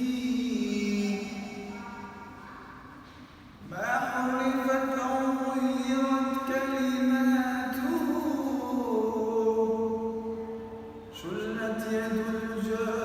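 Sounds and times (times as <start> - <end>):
man singing devotional song: 0.0 - 1.8, 3.6 - 10.4, 11.1 - 13.0.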